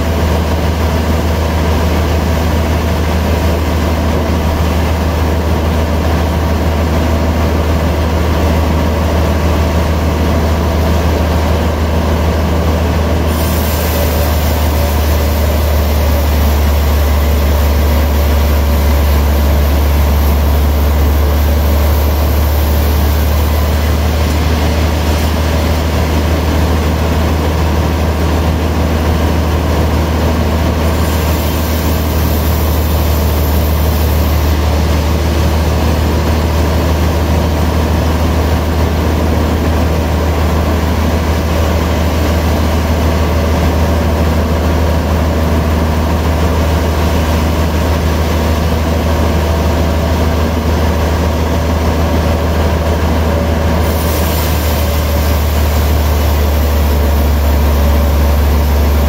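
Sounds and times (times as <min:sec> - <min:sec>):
band sawmill humming: 0:00.0 - 0:59.0.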